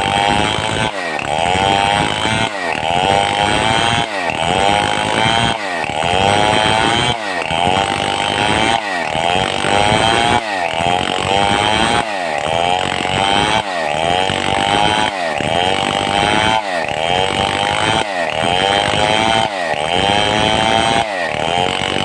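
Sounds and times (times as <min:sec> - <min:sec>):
chainsaw cutting log: 0:00.0 - 0:22.0.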